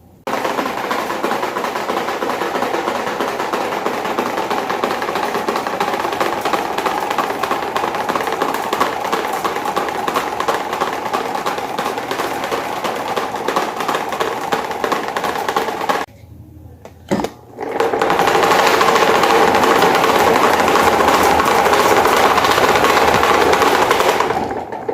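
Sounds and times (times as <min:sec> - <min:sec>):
electric fan rattling: 0:00.0 - 0:16.1, 0:17.1 - 0:24.9.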